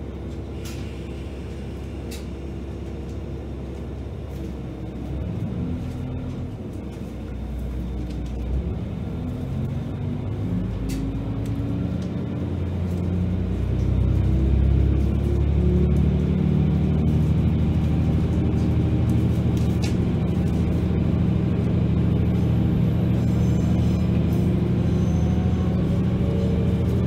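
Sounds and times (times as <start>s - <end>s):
diesel railcar engine: 0.0s - 27.0s.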